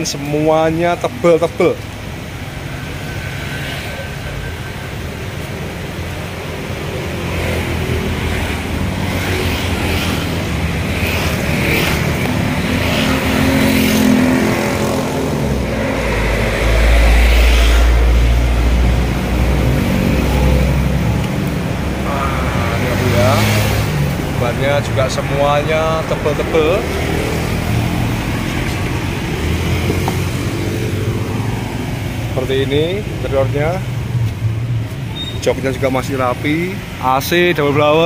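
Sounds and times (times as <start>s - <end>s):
vehicles driving past: 0.0s - 38.0s.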